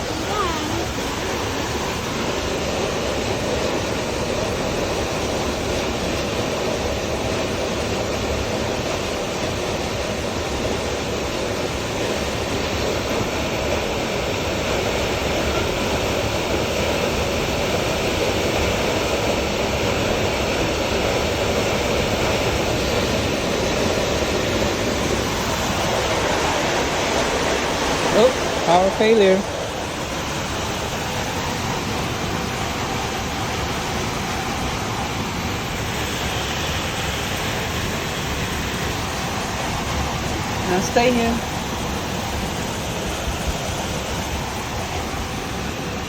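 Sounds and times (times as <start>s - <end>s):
hail and heavy rain pelting: 0.0s - 46.0s.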